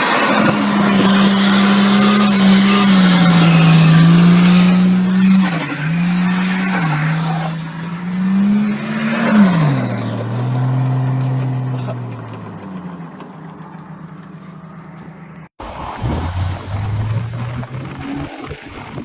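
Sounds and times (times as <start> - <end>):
car engine at high revs: 0.0 - 19.0
tyre noise: 0.0 - 19.0.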